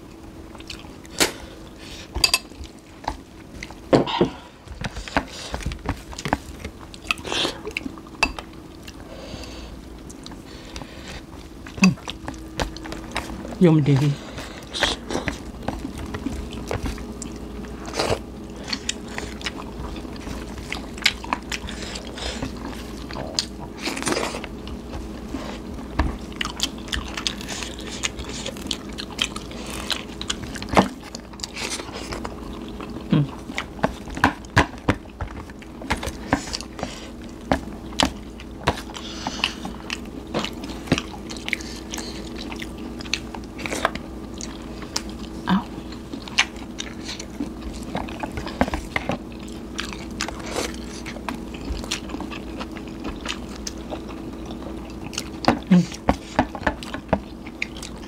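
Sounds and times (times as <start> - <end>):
faint steady hum: 0.0 - 58.0
people chewing crunchy food: 0.0 - 58.0.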